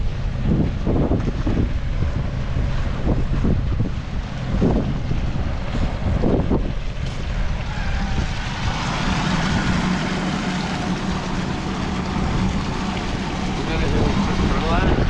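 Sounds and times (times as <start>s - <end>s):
low hum: 0.0s - 15.0s
water rushing from hydrant: 0.0s - 15.0s.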